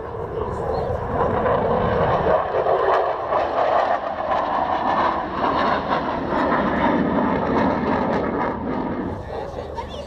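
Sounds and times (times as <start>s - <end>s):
jet aircraft flying overhead: 0.0s - 10.0s.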